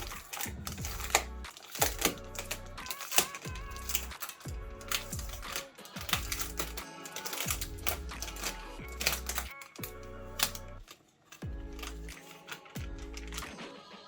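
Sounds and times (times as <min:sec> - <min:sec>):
music with a beat and deep bass: 0:00.0 - 0:14.0.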